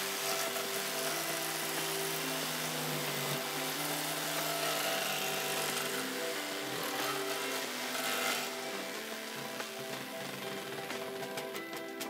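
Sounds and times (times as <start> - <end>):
jigsaw cutting wood: 0.0 - 11.6.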